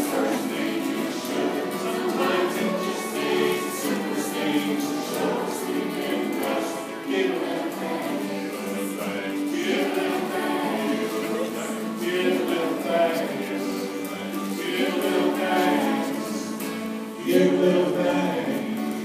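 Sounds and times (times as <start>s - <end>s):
acoustic guitars strummed: 0.0s - 19.0s
group of voices singing: 0.0s - 19.0s
violin: 0.0s - 19.0s.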